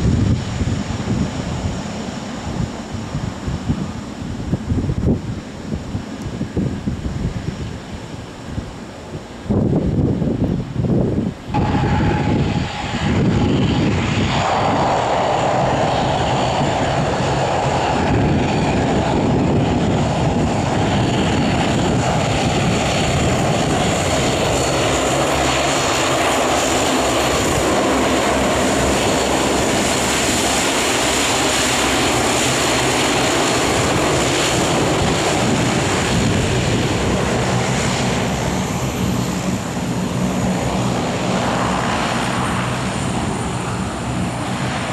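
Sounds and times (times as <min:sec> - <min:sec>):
airliner engines roaring and whining: 0:00.0 - 0:44.9.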